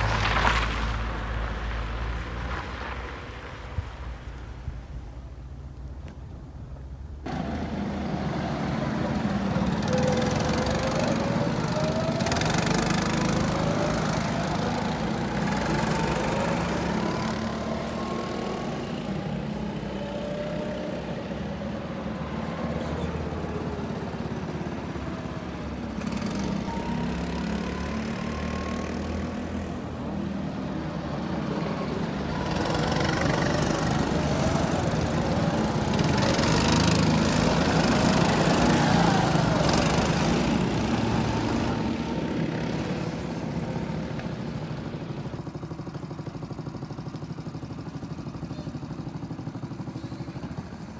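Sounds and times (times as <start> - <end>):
go-kart engines racing: 7.2 - 50.9.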